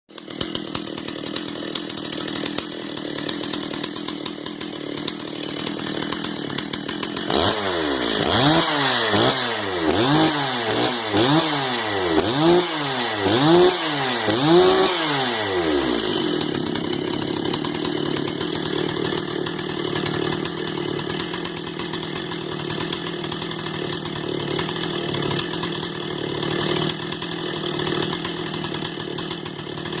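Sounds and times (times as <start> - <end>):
chainsaw idling and revving: 0.1 - 30.0.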